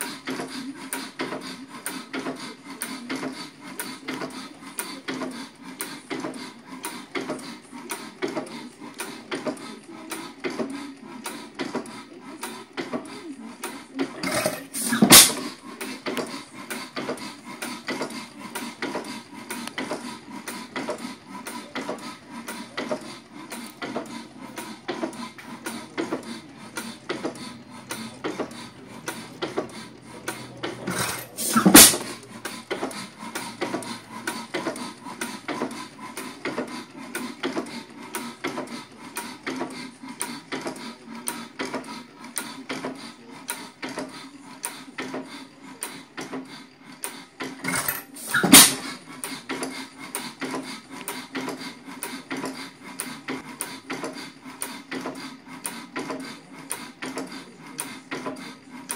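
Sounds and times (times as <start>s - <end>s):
engine flywheel clicking: 0.0s - 58.9s.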